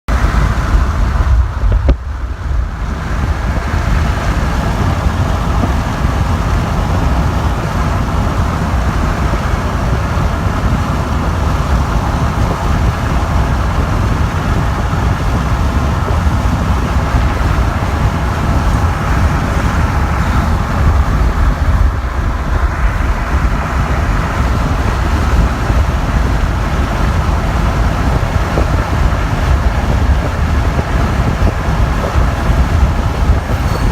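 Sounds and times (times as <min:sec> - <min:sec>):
freight train rumbling past: 0:00.1 - 0:33.9.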